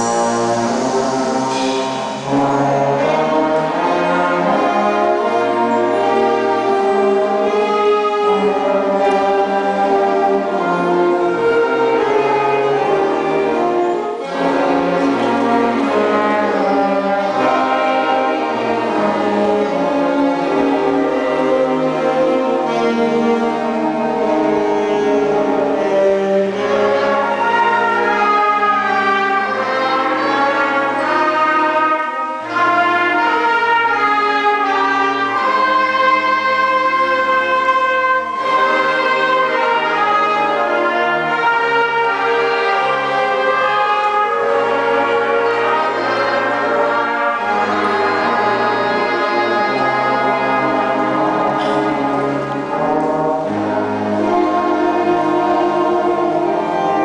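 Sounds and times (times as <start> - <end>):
ensemble playing held chords: 0.0 - 57.0.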